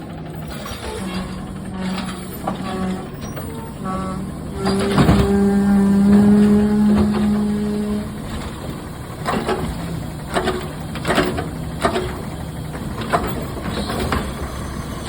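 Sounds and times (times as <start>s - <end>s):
clanks: 0.0s - 15.0s
garbage truck humming: 0.0s - 15.0s.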